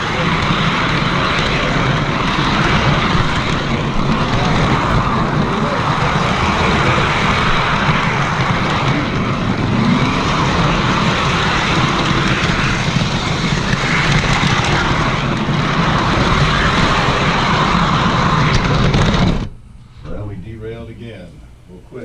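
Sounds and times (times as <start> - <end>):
model train motor hum: 0.0 - 19.6
model train wheels rumbling on rail: 0.0 - 20.3.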